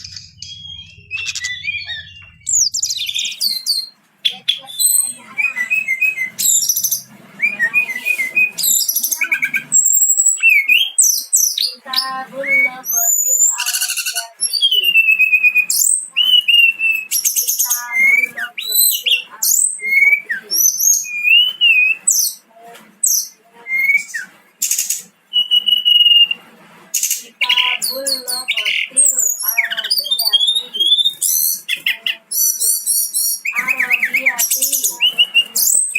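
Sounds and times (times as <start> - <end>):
flycatchers singing: 0.0 - 35.9.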